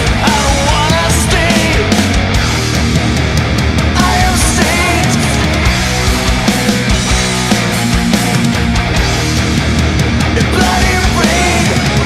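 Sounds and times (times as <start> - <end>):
loud thrash metal music: 0.0 - 12.0.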